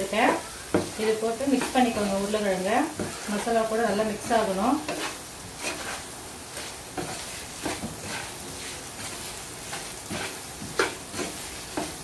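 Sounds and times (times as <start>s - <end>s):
food sizzling in a pan: 0.0s - 12.0s
wooden spatula scraping a pan: 0.0s - 12.0s.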